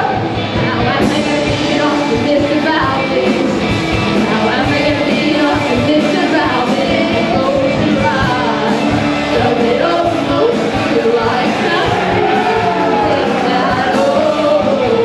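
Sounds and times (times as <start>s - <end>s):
live rock band playing: 0.0s - 15.0s
woman singing: 0.0s - 15.0s.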